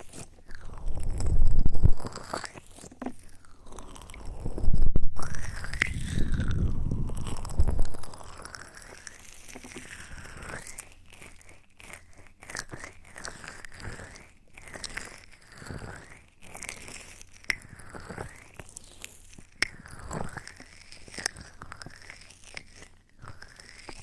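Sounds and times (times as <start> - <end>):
wet mouth smacks and clicks: 0.0 - 24.0.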